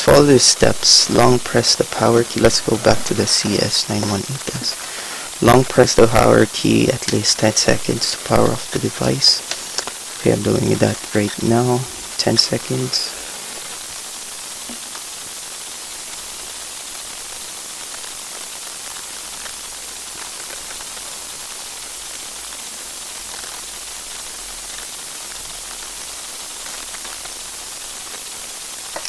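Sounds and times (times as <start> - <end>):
microphone hiss: 0.0 - 29.0.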